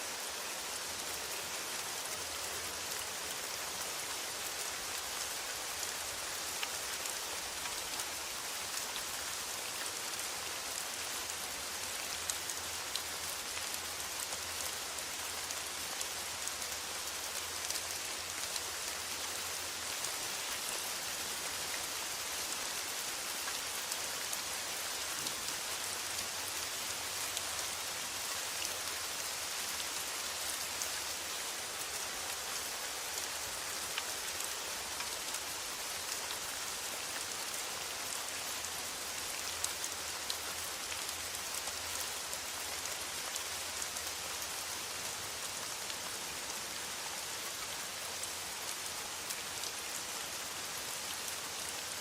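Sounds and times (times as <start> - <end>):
rain on a metal roof: 0.0 - 52.0.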